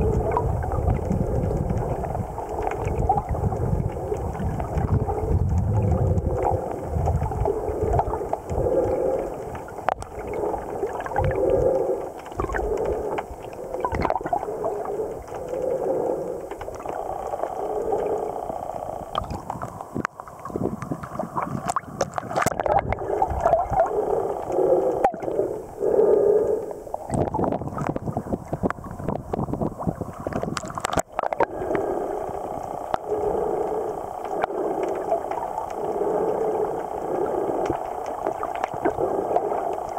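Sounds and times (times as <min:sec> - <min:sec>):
water splashing: 0:00.0 - 0:25.8, 0:26.9 - 0:39.9
muffled underwater sloshing: 0:00.0 - 0:39.9.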